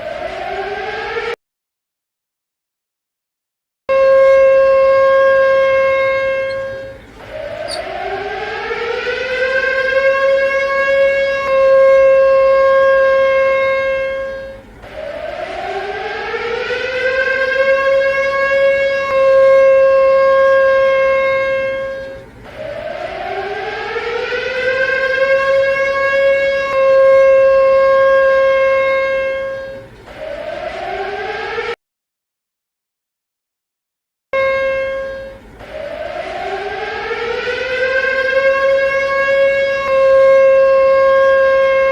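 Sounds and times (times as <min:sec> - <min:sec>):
siren wail from ceiling fan: 0:00.0 - 0:01.4, 0:03.9 - 0:31.8, 0:34.4 - 0:41.9.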